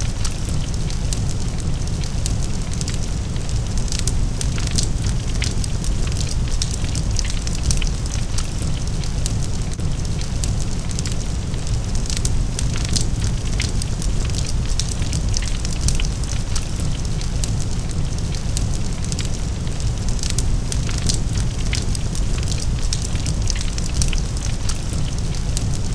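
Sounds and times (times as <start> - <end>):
fire crackling and snapping: 0.0 - 25.9.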